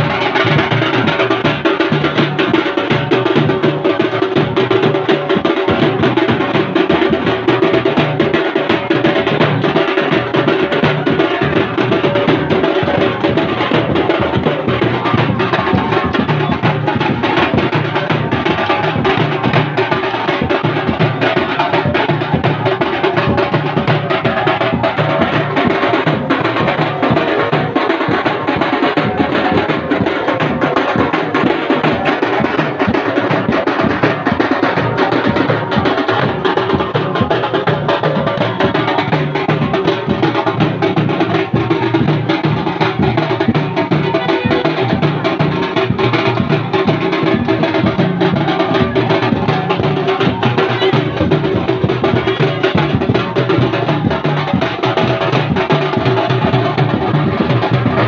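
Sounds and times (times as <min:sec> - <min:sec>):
dhol drums beaten loudly: 0:00.0 - 0:58.0.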